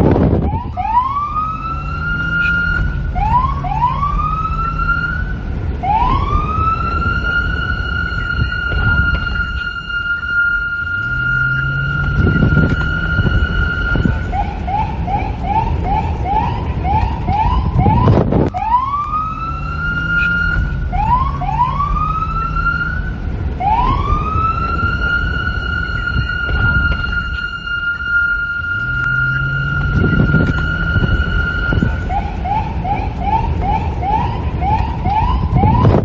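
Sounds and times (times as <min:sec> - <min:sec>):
low wind rumble: 0:00.0 - 0:36.0
police siren wailing and yelping: 0:00.3 - 0:36.0.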